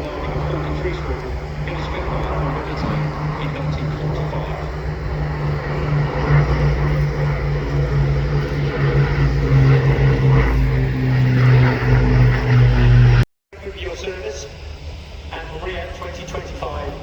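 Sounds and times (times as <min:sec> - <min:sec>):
propeller aircraft engine drone: 0:00.0 - 0:17.0.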